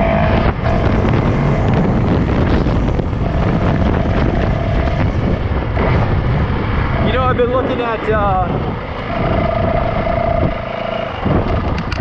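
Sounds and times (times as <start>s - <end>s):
dirt bike engine running: 0.0s - 12.0s
wind rush on microphone: 0.0s - 12.0s.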